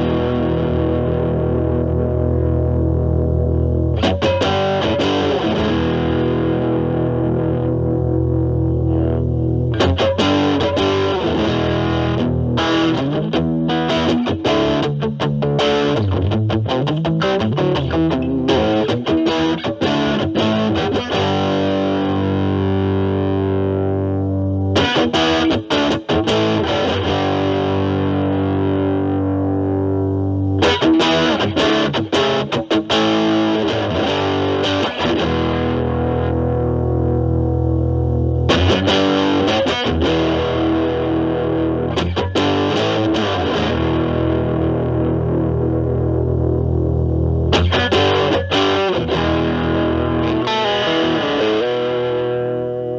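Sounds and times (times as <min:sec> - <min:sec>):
distorted electric guitar: 0:00.0 - 0:52.9.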